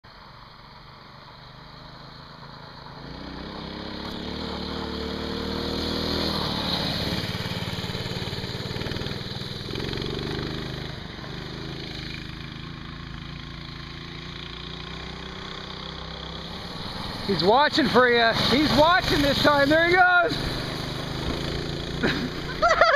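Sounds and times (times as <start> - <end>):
minibike engines revving: 1.3 - 22.9.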